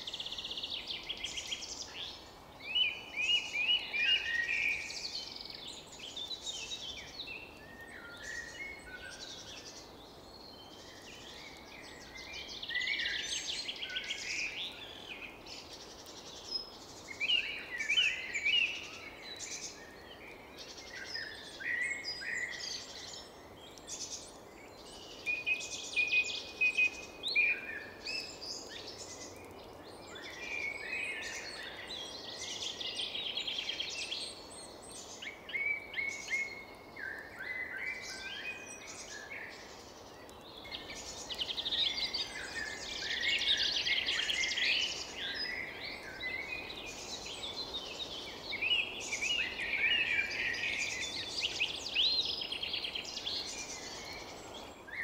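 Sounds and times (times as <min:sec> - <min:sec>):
birds chirping and singing: 0:00.0 - 0:55.0
faint background hiss: 0:00.0 - 0:55.0.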